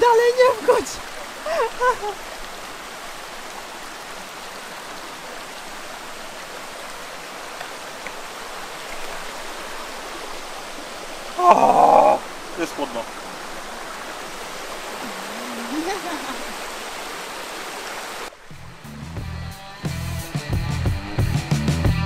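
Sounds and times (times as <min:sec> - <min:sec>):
stream running over stones: 0:00.0 - 0:19.2.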